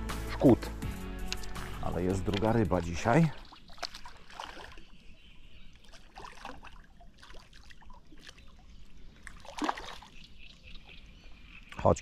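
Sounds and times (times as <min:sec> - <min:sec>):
water splashing and trickling: 0:00.2 - 0:12.0.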